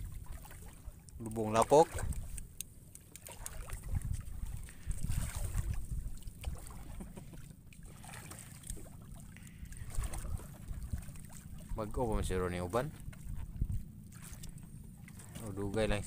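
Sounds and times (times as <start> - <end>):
wind rumbling on microphone: 0.0 - 2.6, 3.4 - 7.4, 8.7 - 16.0
water lapping against boat: 0.0 - 16.0.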